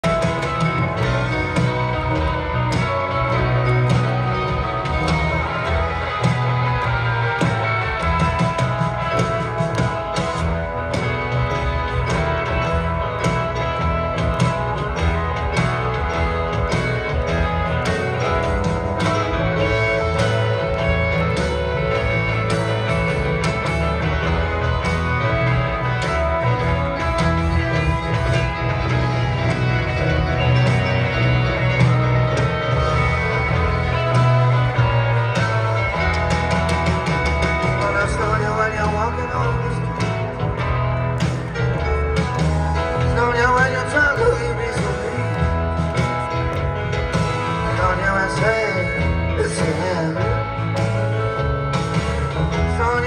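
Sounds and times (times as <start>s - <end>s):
live band playing instrumental: 0.0s - 53.0s.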